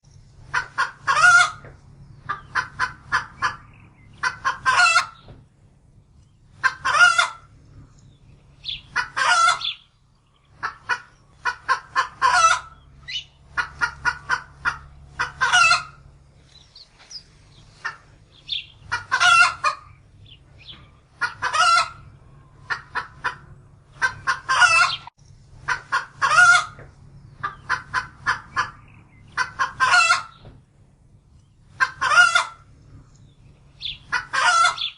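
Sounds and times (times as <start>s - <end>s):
chicken clucking and squawking: 0.3s - 34.9s.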